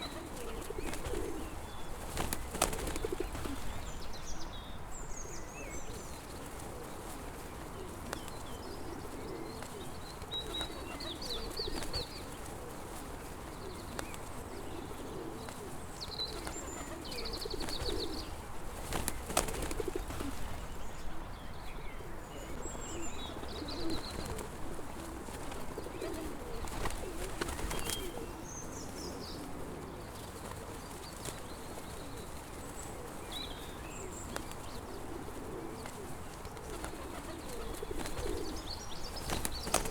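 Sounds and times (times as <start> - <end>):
pigeons cooing: 0.0 - 3.9, 5.2 - 20.7, 22.0 - 39.9
small birds chirping: 0.0 - 39.9.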